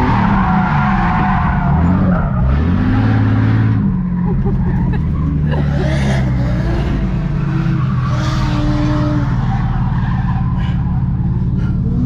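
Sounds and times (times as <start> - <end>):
car engine at high revs: 0.0 - 12.0
tyres skidding and squealing: 0.0 - 12.0.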